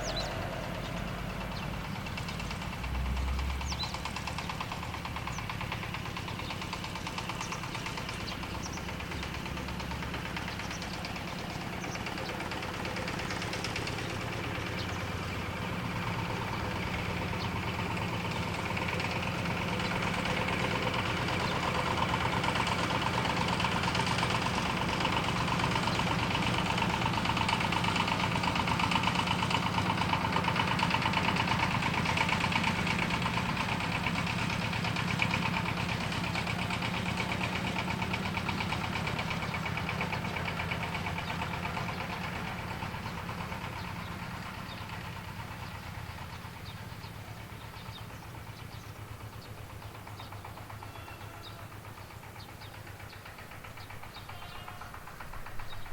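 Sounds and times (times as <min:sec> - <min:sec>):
motor engine chugging: 0:00.0 - 0:55.9.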